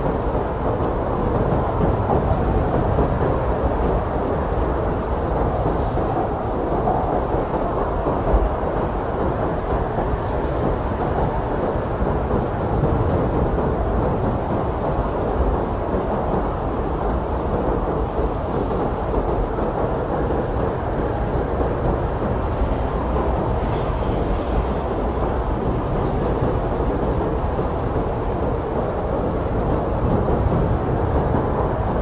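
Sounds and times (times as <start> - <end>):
blizzard wind blowing: 0.0 - 32.0.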